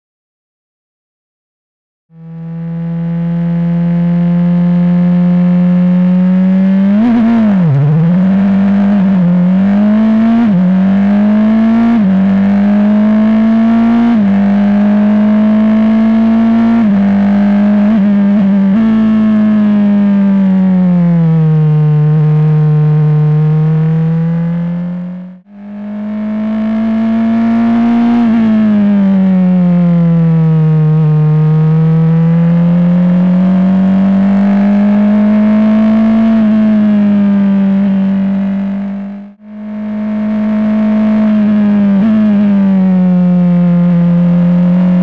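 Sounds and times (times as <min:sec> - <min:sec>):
race car engine at high revs: 0:02.1 - 0:45.0.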